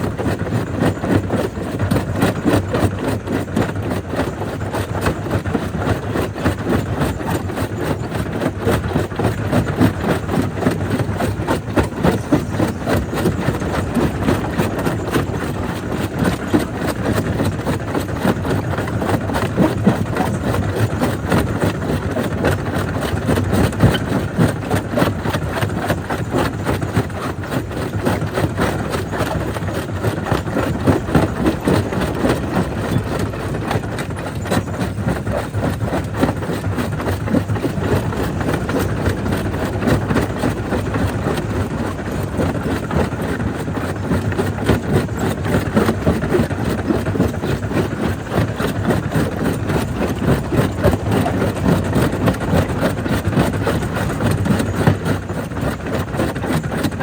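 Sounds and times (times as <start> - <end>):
jaw crusher running: 0.0 - 57.0.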